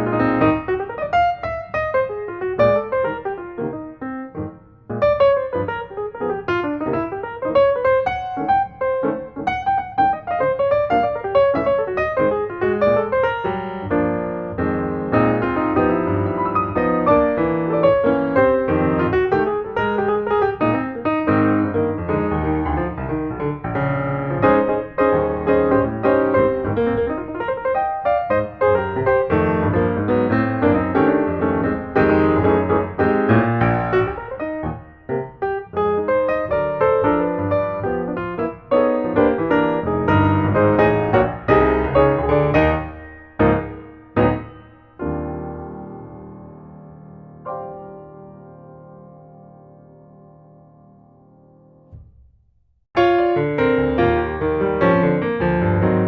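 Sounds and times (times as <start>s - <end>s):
piano music: 0.0s - 52.2s, 53.0s - 56.0s.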